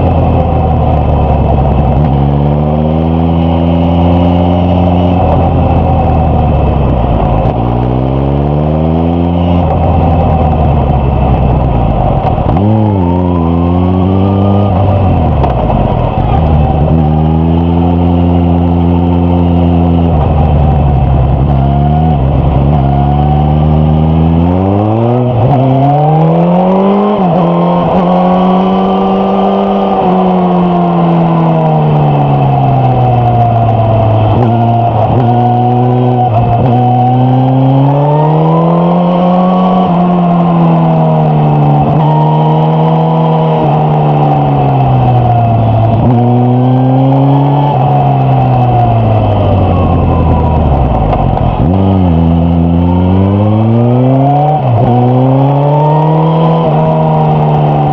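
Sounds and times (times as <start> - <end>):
motorcycle engine and exhaust revving: 0.0 - 57.9.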